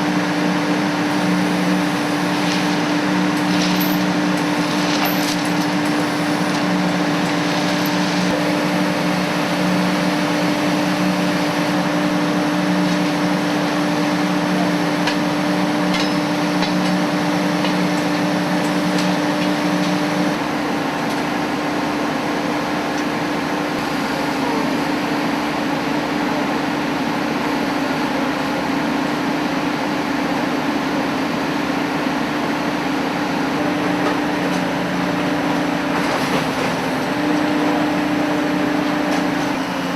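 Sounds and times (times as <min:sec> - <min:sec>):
machinery running: 0:00.0 - 0:27.9, 0:32.6 - 0:39.9.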